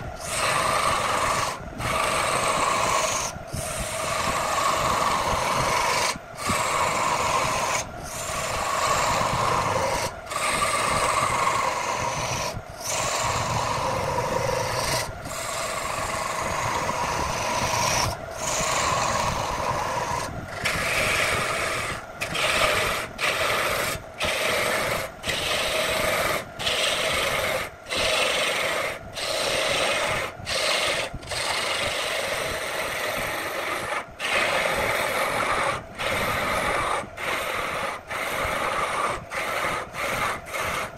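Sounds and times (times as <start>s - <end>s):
chisel cutting wood on lathe: 0.0s - 40.9s.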